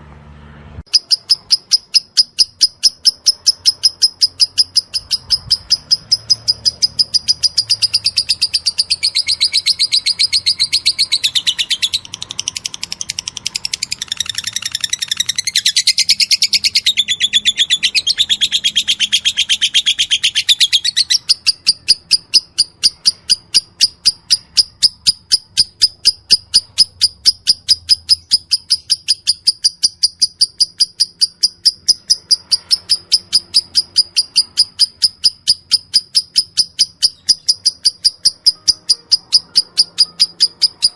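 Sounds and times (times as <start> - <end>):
lovebird ticking chirps: 0.9 - 40.9.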